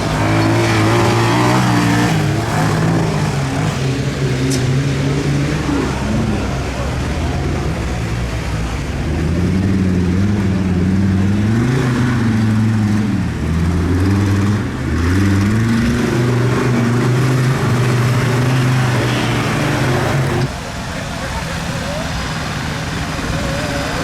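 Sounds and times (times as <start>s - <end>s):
tractor engine revving: 0.0s - 24.0s.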